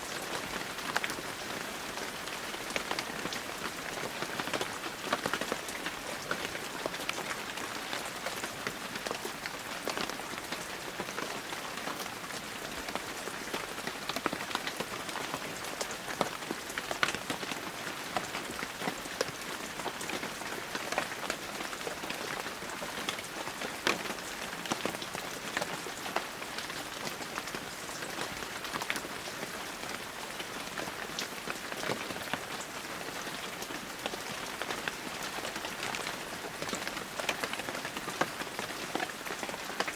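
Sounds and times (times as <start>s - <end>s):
heavy rain falling: 0.0s - 39.9s
raindrops ticking close by: 0.1s - 39.9s.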